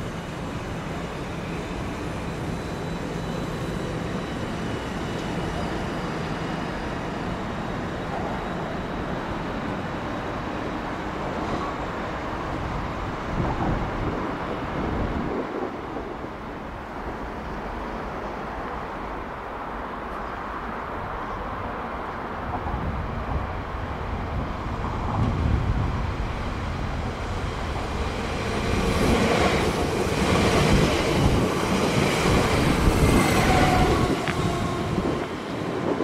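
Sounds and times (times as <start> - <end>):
train rumble: 0.0 - 36.0.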